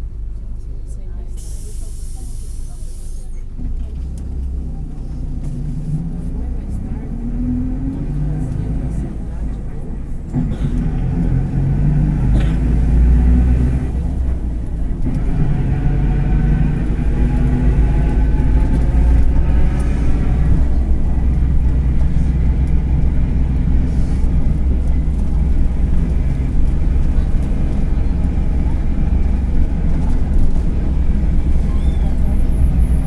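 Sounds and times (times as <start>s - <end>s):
bus diesel engine rumble: 0.0s - 33.0s.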